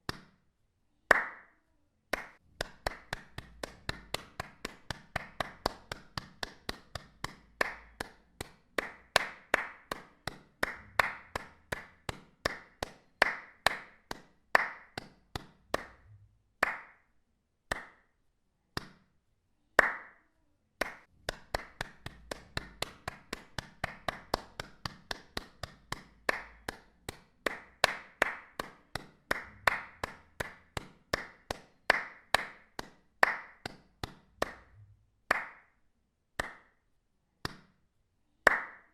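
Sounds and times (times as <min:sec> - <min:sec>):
hand claps: 0:00.0 - 0:00.4, 0:01.1 - 0:19.1, 0:19.8 - 0:35.8, 0:36.4 - 0:37.8, 0:38.4 - 0:38.9.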